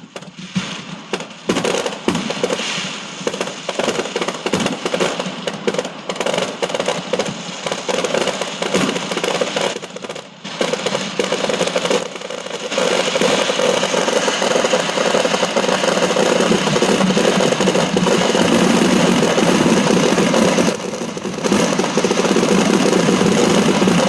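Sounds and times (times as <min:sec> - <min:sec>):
fireworks and firecrackers crackling: 0:00.0 - 0:24.0.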